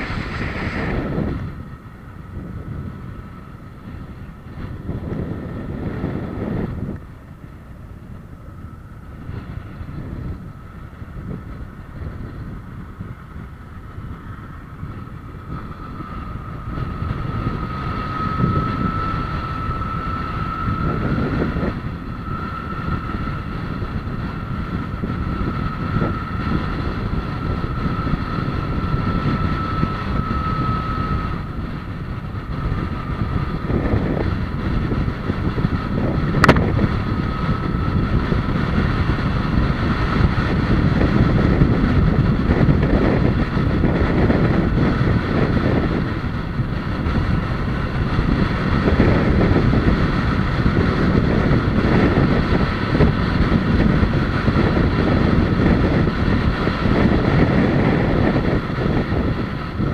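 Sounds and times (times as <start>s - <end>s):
faint steady whine: 0.0s - 59.9s
moving vehicle rumble: 0.0s - 59.9s
wind buffeting microphone: 0.0s - 59.9s.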